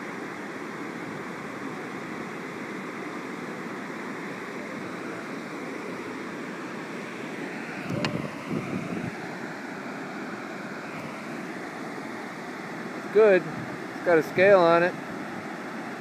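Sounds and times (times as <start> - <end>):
fast water rushing: 0.0 - 16.0.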